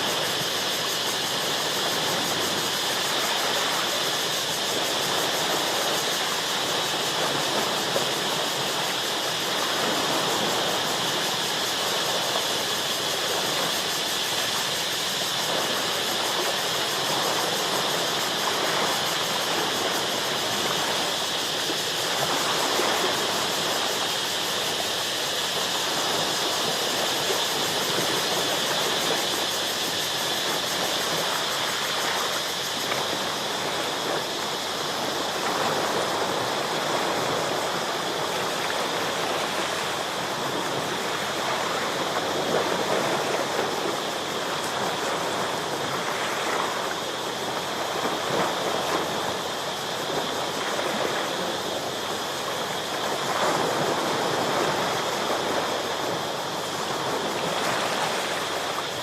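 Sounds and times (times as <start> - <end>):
waves washing against rocks: 0.0 - 59.0.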